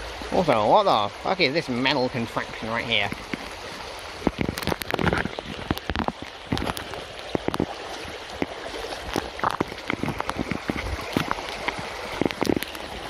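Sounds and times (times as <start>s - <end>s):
brook rushing over stones: 0.0s - 13.0s
small water splashes and plops: 0.0s - 13.0s.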